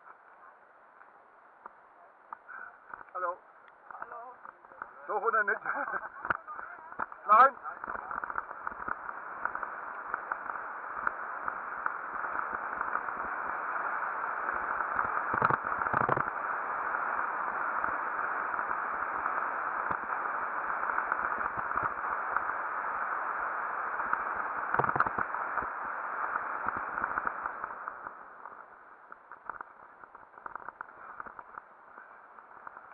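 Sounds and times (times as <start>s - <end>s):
wind and tyre noise: 0.0s - 32.9s.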